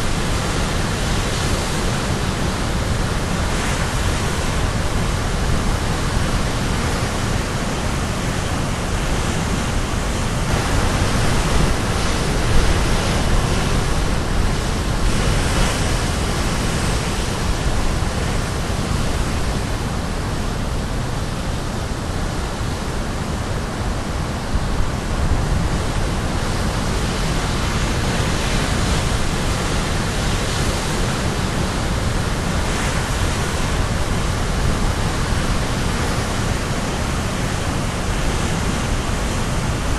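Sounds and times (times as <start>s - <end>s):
surf breaking on shore: 0.0s - 39.9s.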